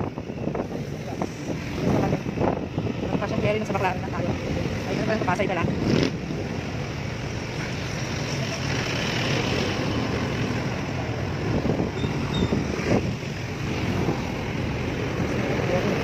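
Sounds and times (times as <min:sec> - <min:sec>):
road noise: 0:00.0 - 0:16.0
surrounding cars: 0:00.0 - 0:16.0.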